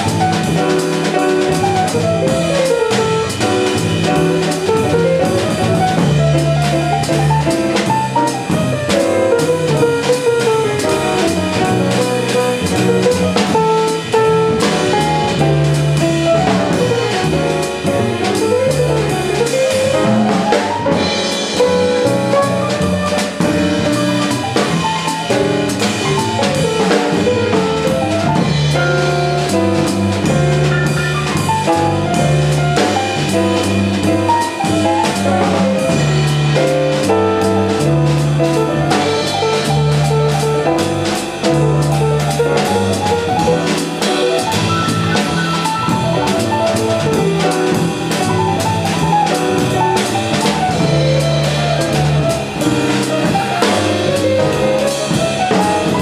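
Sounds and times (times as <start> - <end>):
drum cymbals: 0.0 - 56.0
jazz quartet playing: 0.0 - 56.0
low bass notes: 0.0 - 56.0.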